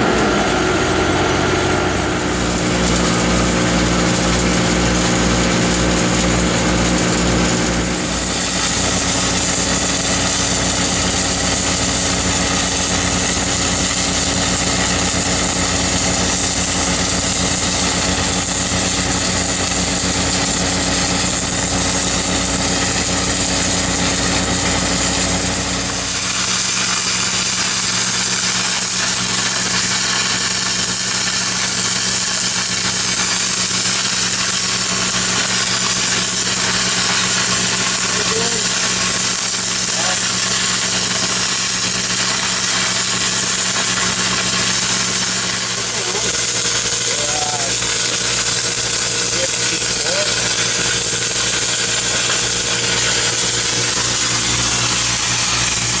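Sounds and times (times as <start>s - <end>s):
welding arc hiss: 0.0s - 56.0s
welding machine engine running: 0.0s - 56.0s.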